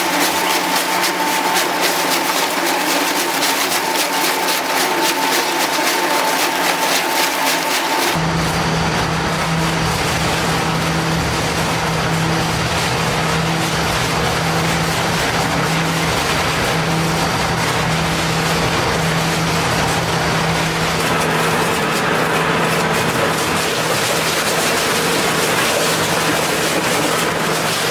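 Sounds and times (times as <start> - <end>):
industrial shredder droning: 0.0 - 27.9.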